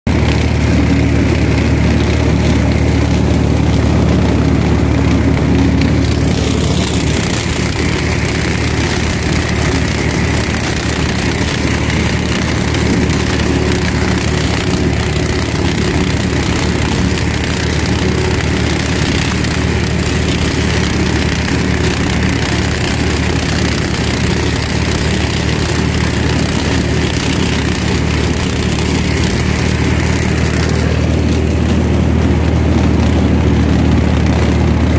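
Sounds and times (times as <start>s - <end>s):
tractor diesel engine running: 0.0s - 34.9s
mulcher shredding stalks: 0.1s - 34.9s.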